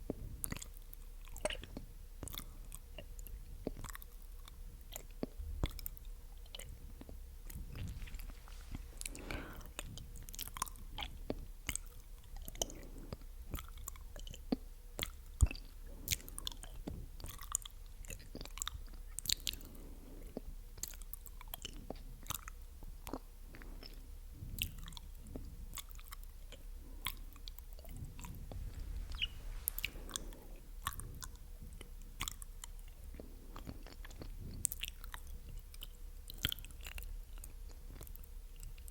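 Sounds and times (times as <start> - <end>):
wet lip and tongue clicks: 0.1 - 19.7, 20.3 - 38.9.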